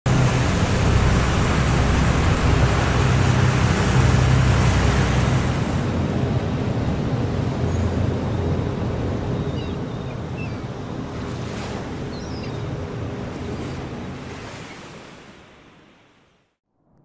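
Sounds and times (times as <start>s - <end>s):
ship engine low drone: 0.1s - 15.8s
sea and wind noise: 0.1s - 16.5s.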